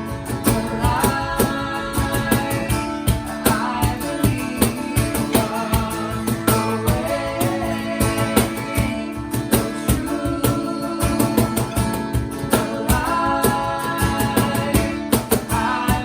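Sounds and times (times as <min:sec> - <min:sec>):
person singing: 0:00.0 - 0:16.0
worship band playing: 0:00.0 - 0:16.0.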